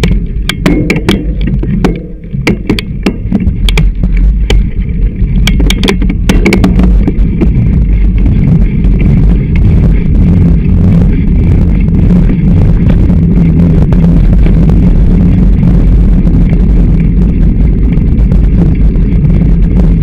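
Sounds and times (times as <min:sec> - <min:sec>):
bicycle knocks and rattles: 0:00.0 - 0:20.0
low rumble: 0:00.0 - 0:20.0.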